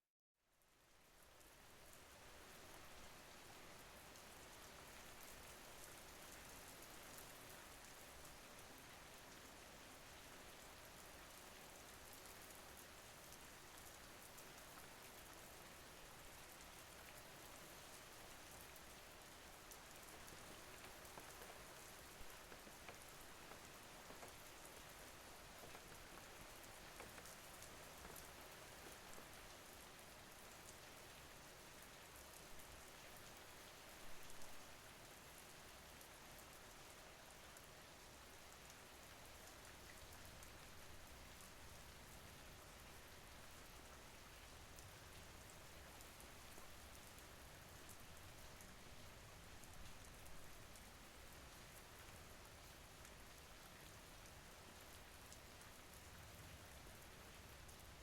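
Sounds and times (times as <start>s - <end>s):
quiet rain falling: 0.4s - 58.0s.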